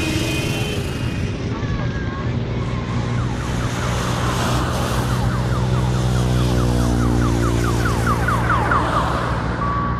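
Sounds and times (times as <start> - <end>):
electronic siren chirping: 1.4 - 9.9.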